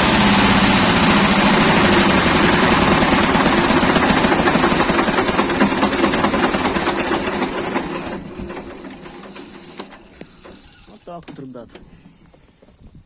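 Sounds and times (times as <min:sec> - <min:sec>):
diesel engine running: 0:00.0 - 0:12.7.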